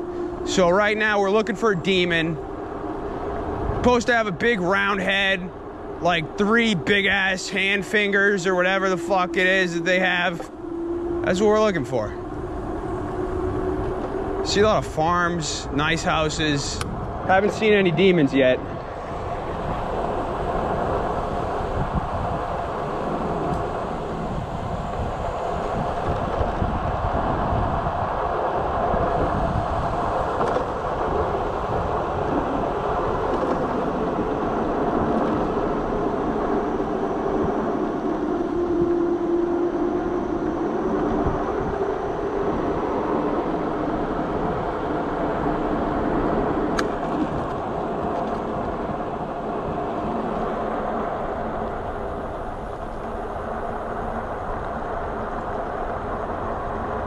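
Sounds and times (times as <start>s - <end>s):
electric motor hum: 0.0s - 57.0s
wind buffeting microphone: 0.0s - 57.0s.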